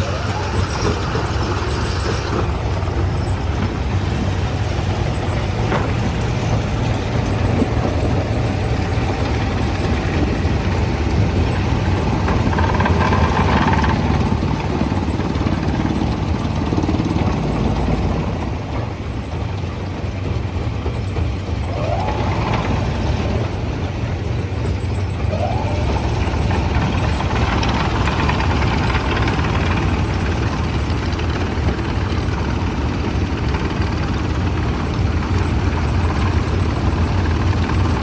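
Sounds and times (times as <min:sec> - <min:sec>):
short rising whines: 0:00.0 - 0:16.5, 0:21.5 - 0:38.0
diesel machinery rumbling: 0:00.0 - 0:38.0.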